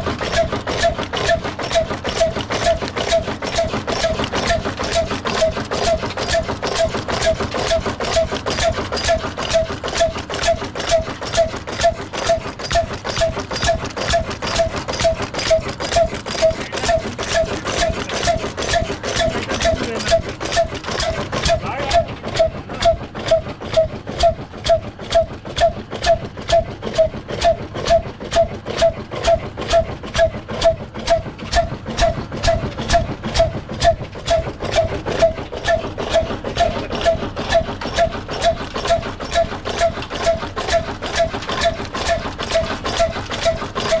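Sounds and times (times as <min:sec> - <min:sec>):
stationary engine knocking: 0:00.0 - 0:44.0.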